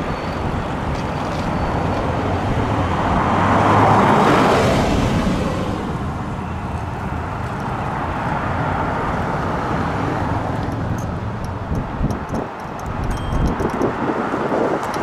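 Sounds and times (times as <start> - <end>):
cars and motorcycles driving away: 0.0 - 15.0.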